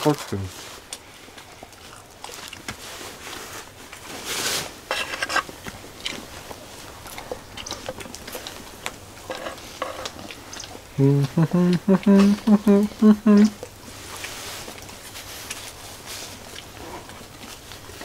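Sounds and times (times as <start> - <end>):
rustling: 0.0 - 10.5, 13.8 - 18.0
faint steady hiss: 0.0 - 18.0.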